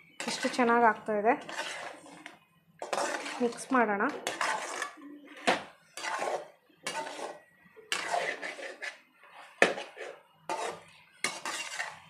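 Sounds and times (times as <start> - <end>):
metal spatula scraping pan: 0.1 - 12.0.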